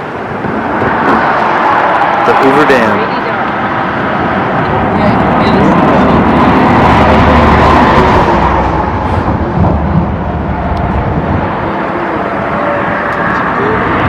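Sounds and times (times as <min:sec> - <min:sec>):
highway traffic: 0:00.0 - 0:14.0
wind on microphone: 0:00.0 - 0:14.0.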